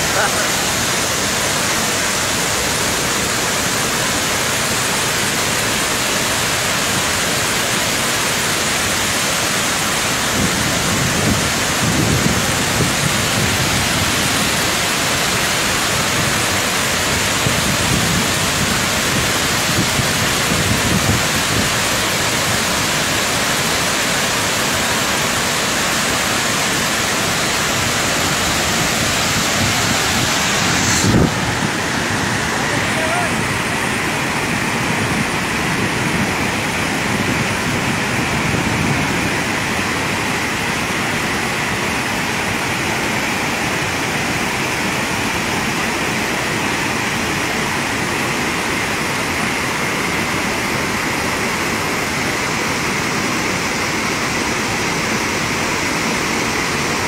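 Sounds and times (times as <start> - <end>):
high-pressure water jets rushing: 0.0 - 57.0.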